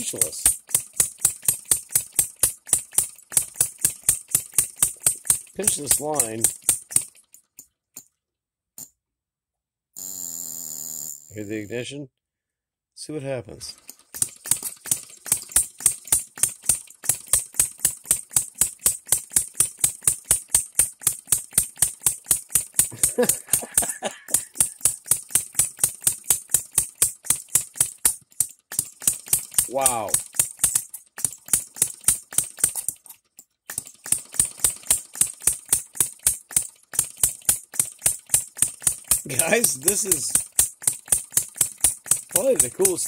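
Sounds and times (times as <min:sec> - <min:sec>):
small model engine running: 0:00.0 - 0:07.3, 0:13.8 - 0:43.0.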